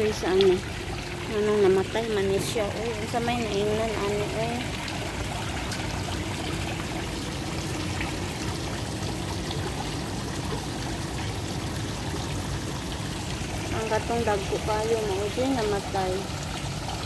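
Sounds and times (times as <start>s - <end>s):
faint steady hum: 0.0s - 17.0s
water trickling into pond: 0.0s - 17.0s.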